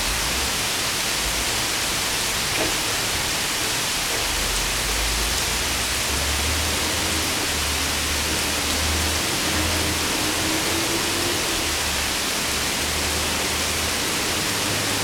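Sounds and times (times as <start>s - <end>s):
rain falling on leaves: 0.0s - 15.0s.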